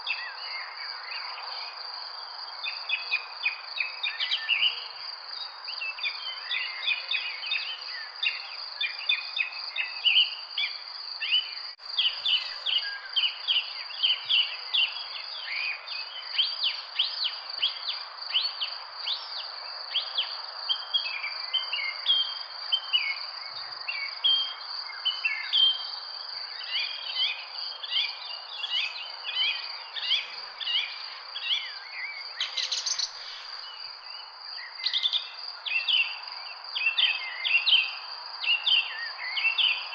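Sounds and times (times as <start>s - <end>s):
insect trill: 2.0s - 19.4s, 20.2s - 39.9s
small birds chirping: 2.7s - 39.9s.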